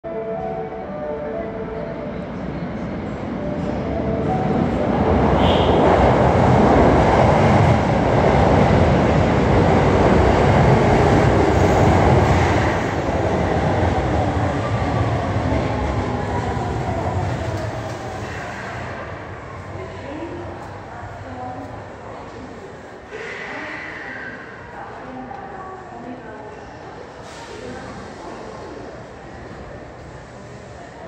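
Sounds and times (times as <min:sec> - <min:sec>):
subway train rumble: 0:00.0 - 0:31.0.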